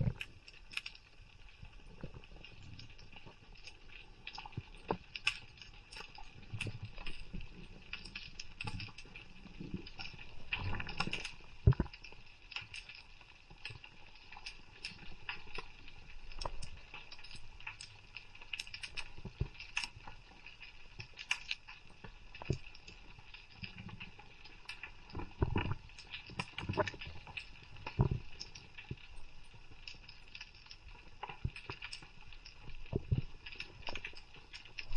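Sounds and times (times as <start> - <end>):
underwater crackle of clicks: 0.0 - 34.9.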